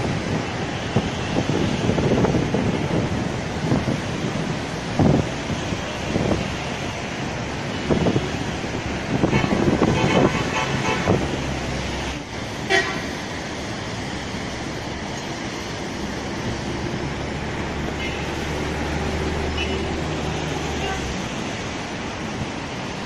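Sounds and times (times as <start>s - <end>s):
sea waves: 0.0s - 23.0s
street traffic: 0.0s - 23.0s
wind: 0.0s - 23.0s.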